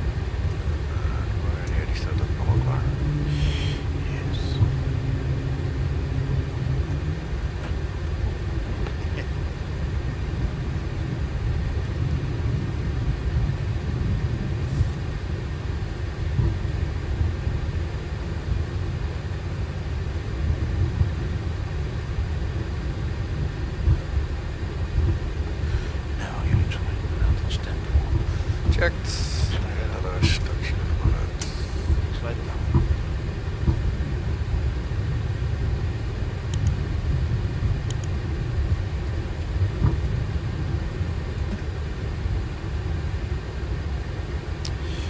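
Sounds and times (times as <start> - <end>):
low hum: 0.0 - 17.7, 20.5 - 45.0
aircraft cockpit rumble: 0.0 - 45.0.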